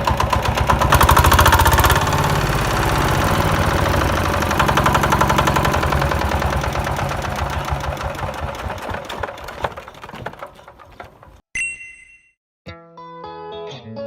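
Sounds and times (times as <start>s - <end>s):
small motor clattering: 0.0s - 11.4s.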